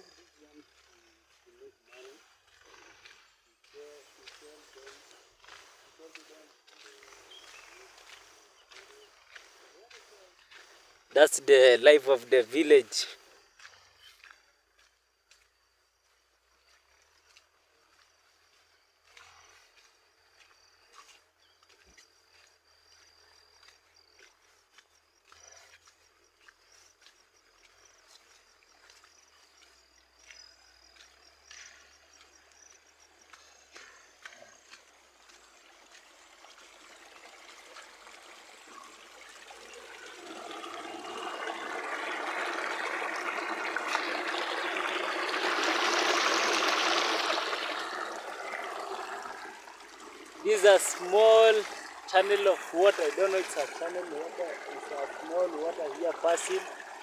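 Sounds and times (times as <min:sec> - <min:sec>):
stream of water trickling: 0:00.0 - 0:57.0.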